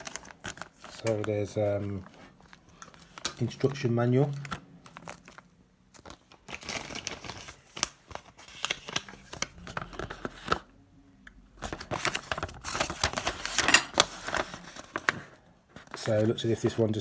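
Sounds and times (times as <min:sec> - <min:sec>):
paper crinkling and rustling: 0:00.0 - 0:10.8, 0:11.5 - 0:17.0.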